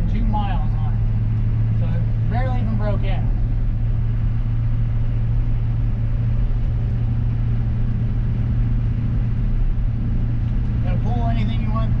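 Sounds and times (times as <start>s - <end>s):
diesel truck engine drone: 0.0s - 12.0s
road noise: 0.0s - 12.0s.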